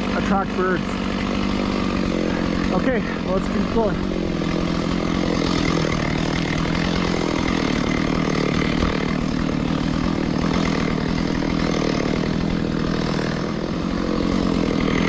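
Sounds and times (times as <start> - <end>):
brush cutter engine running: 0.0 - 15.0.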